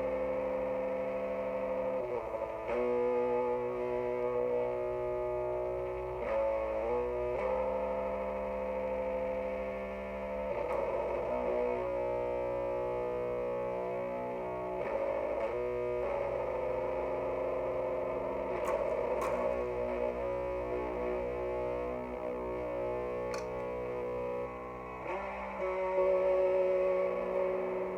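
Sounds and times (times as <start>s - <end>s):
distorted electric guitar riff: 0.0s - 27.9s
low amp hum: 0.0s - 27.9s.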